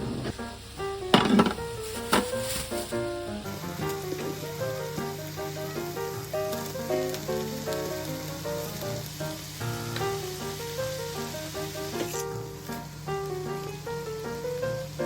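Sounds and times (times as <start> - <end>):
steady hiss: 0.0 - 15.0
light background melody: 0.8 - 15.0.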